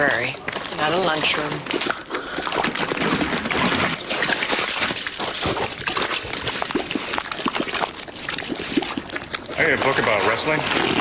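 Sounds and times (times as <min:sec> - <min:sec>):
wet gushing splashing: 0:00.4 - 0:11.0.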